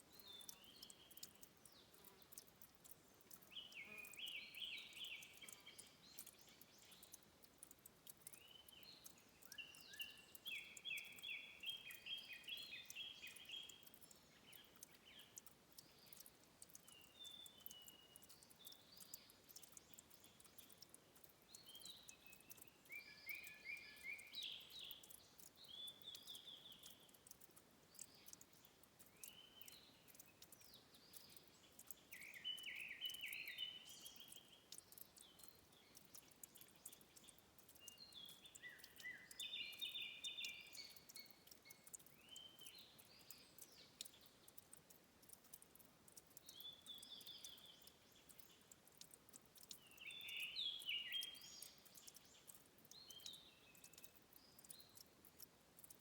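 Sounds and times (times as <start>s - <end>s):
bird chirping trills: 0.0s - 56.0s
water drips ticking: 0.0s - 56.0s.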